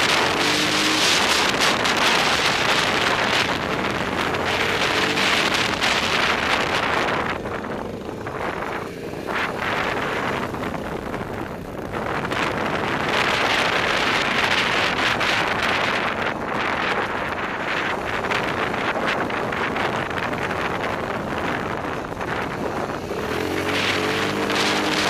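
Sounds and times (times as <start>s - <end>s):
quad engine running: 0.0s - 25.0s
wind noise on microphone: 0.0s - 25.0s.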